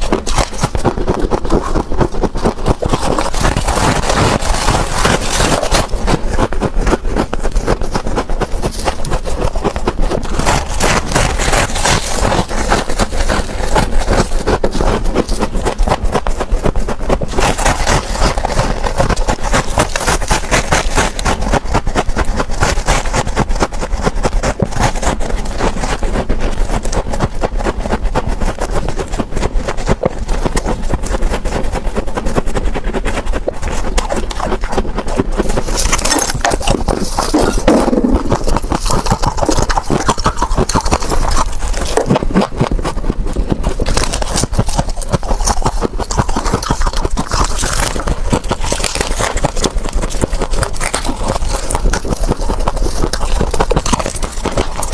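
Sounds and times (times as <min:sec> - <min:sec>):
ice scraped and bitten: 0:00.0 - 0:54.9.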